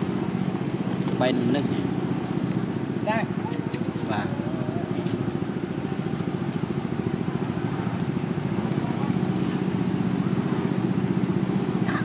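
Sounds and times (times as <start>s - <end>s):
motor engine running: 0.0s - 12.0s.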